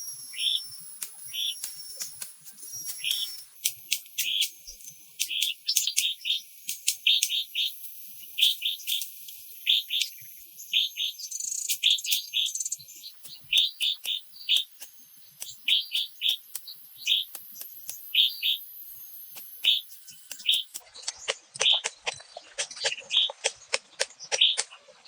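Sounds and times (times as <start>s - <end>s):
bird chirping: 0.0s - 25.0s
sharp ticks: 0.4s - 10.3s, 11.4s - 24.8s.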